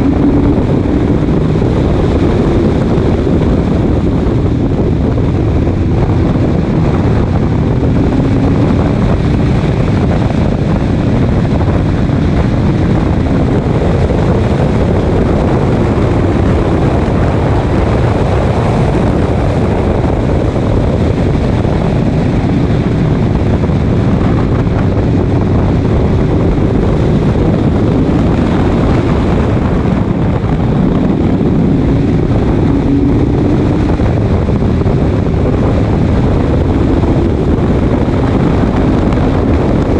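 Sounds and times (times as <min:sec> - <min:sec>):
race car engine: 0:00.0 - 0:39.9
wind rush on microphone: 0:00.0 - 0:39.9.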